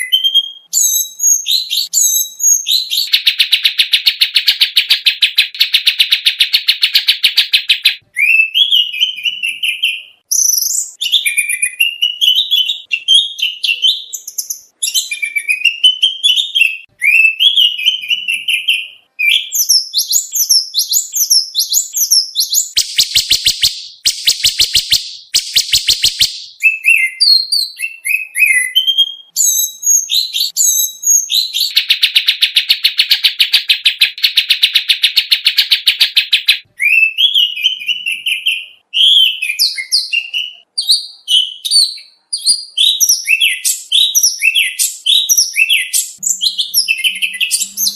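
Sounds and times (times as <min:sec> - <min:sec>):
fast repeated bird trill: 0:00.0 - 0:40.2, 0:42.4 - 0:47.9
harsh bird trills: 0:00.0 - 0:40.7, 0:42.8 - 0:47.9
magpie-robin singing: 0:00.0 - 0:47.9.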